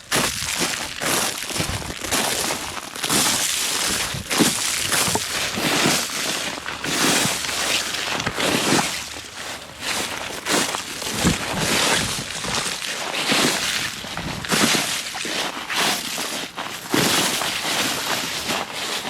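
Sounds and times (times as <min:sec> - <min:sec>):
ice crust crunching: 0:00.0 - 0:19.0.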